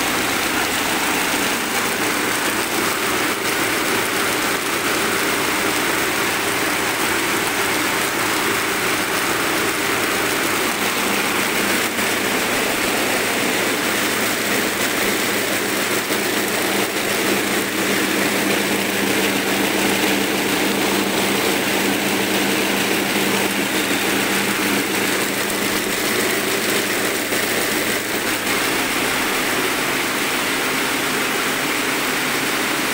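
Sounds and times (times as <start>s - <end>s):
braiding machine running: 0.0s - 32.9s.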